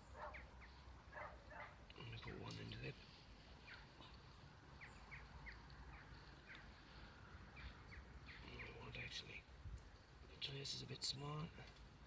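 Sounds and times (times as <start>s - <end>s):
low steady background rumble: 0.0s - 12.0s.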